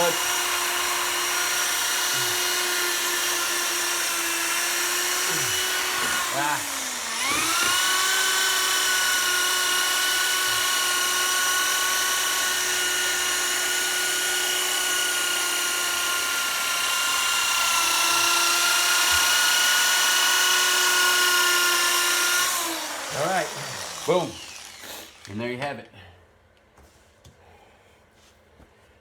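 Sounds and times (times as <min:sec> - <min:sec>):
polishing machine whining: 0:00.0 - 0:25.3.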